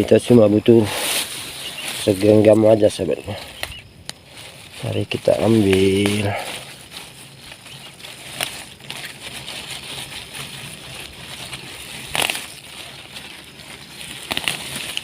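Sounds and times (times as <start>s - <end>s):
plants rustling and crackling: 0.0s - 15.0s.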